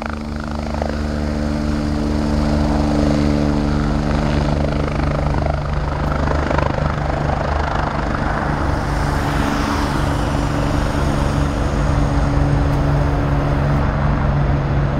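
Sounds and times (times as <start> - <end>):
helicopter engines running: 0.0 - 14.9
helicopter rotor beating: 0.0 - 14.9.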